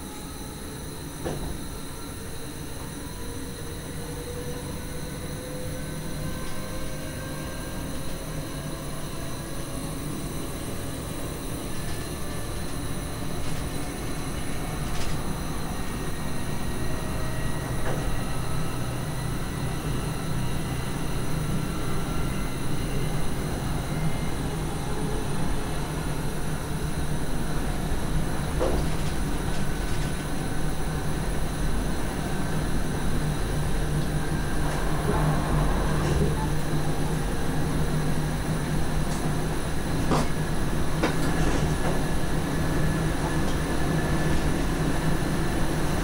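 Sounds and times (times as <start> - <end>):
train running on track: 0.0 - 46.0.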